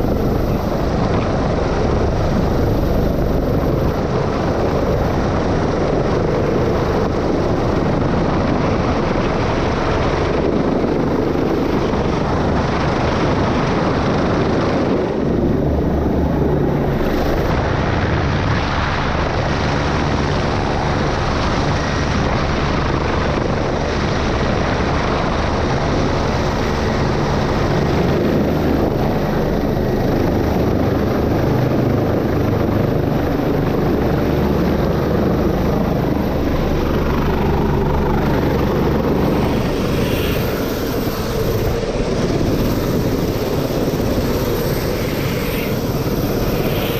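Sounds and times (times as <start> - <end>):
helicopter rotor and engines: 0.0 - 46.9.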